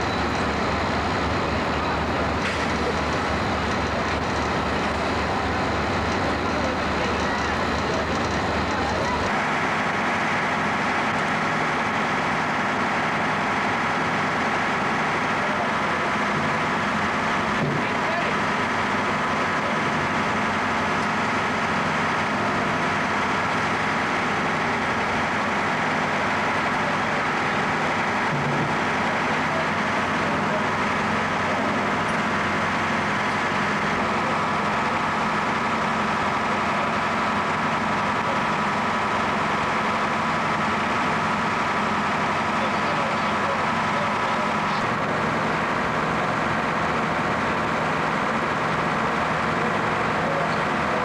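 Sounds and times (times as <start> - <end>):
fire truck engine running: 0.0 - 51.0.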